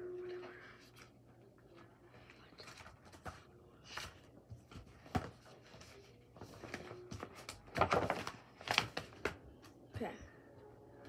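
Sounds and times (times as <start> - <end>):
paper rustling: 0.6 - 9.7.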